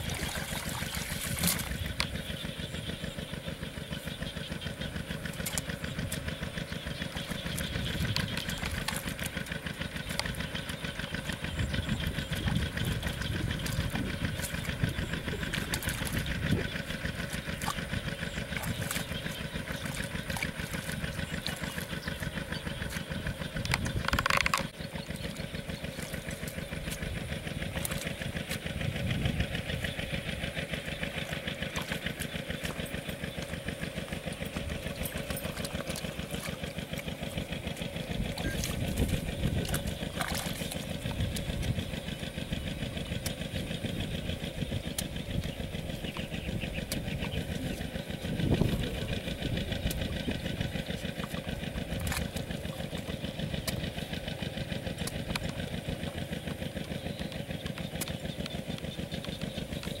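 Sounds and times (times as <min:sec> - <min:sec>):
small engine idling: 0:00.0 - 1:00.0.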